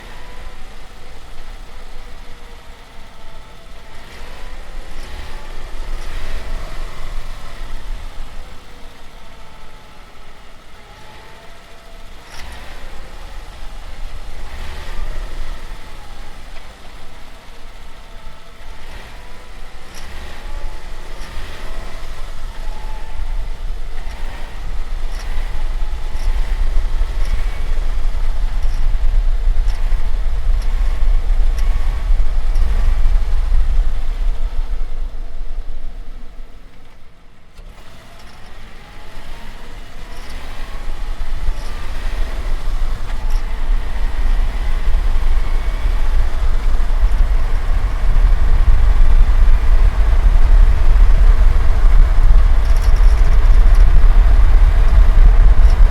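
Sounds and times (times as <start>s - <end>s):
car engine accelerating: 0.0s - 55.9s
road rumble: 0.0s - 55.9s.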